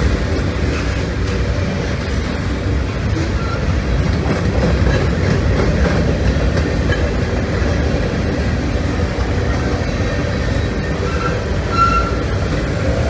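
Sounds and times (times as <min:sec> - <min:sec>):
clickety-clack over rail joints: 0:00.0 - 0:13.0
freight train wheels rumbling: 0:00.0 - 0:13.0.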